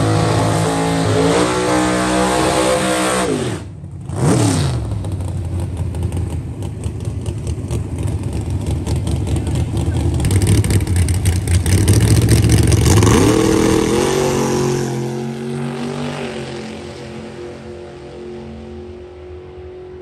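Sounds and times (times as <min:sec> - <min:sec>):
race car engine revving: 0:00.0 - 0:19.2.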